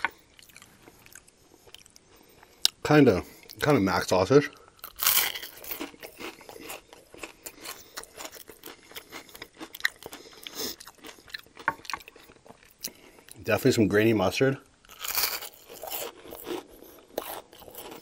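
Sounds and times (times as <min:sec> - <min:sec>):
chewing crispy food: 0:00.0 - 0:02.8, 0:04.4 - 0:13.4, 0:14.8 - 0:18.0.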